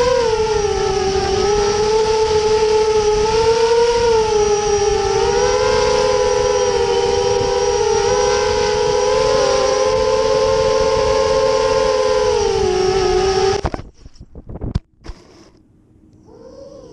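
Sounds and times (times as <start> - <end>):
quadcopter motors whining: 0.0 - 13.8, 16.2 - 16.9.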